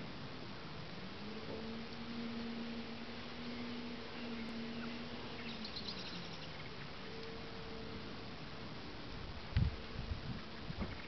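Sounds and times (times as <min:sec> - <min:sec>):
insect buzzing: 0:00.8 - 0:11.0.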